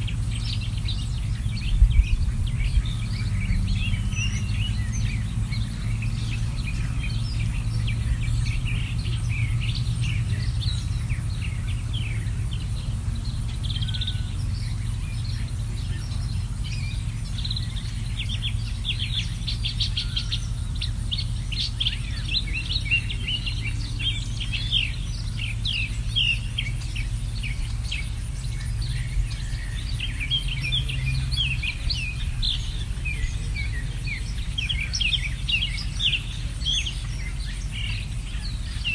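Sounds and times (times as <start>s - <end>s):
small birds chirping: 0.0s - 38.9s
steady low rumble: 0.0s - 38.9s.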